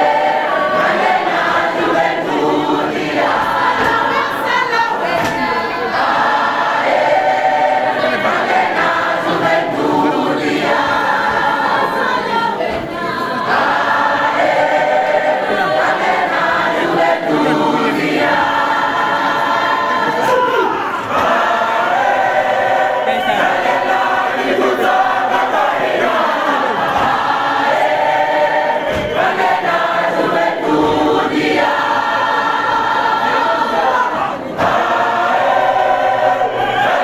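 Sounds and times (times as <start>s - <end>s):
mixed choir singing in harmony: 0.0s - 37.0s.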